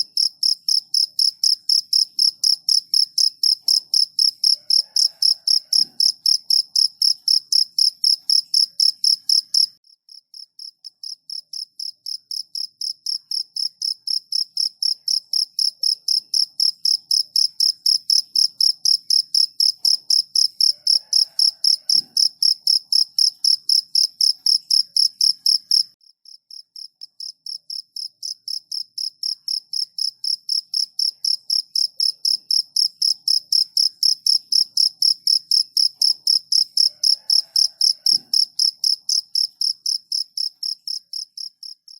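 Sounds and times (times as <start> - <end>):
cricket chirping: 0.0 - 41.9.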